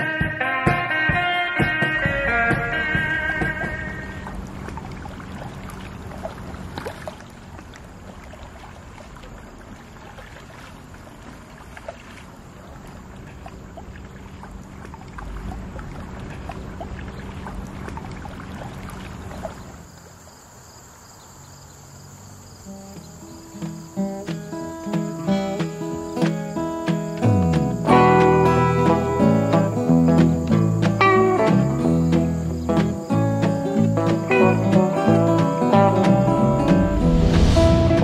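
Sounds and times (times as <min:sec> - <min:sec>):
paddles splashing in water: 0:00.0 - 0:20.3, 0:22.0 - 0:38.0
crickets chirping: 0:02.1 - 0:38.0.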